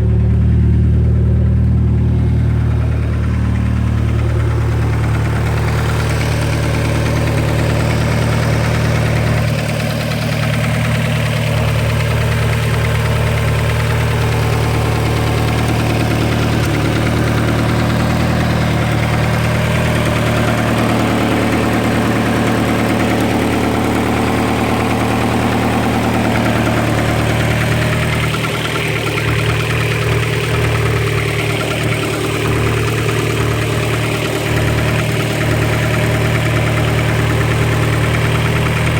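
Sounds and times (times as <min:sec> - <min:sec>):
car engine idling: 0:00.0 - 0:38.9
fast even engine ticking: 0:00.0 - 0:38.9.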